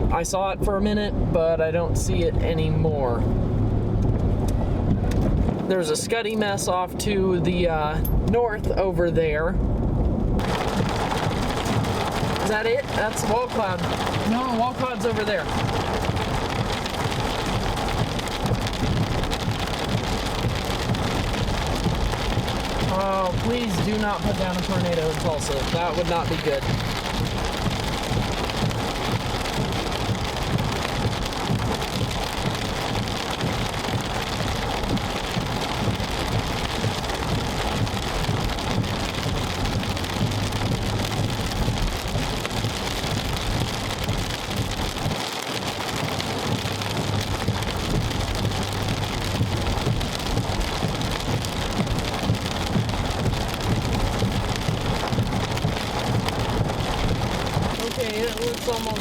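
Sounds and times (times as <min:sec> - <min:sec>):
heavy rain on a car: 0:00.0 - 0:59.0.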